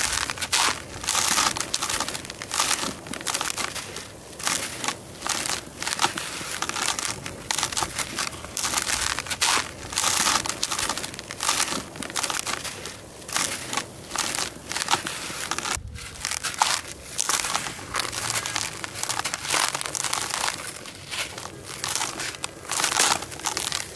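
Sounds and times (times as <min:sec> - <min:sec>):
hands crushing dry cement lumps: 0:00.0 - 0:23.9.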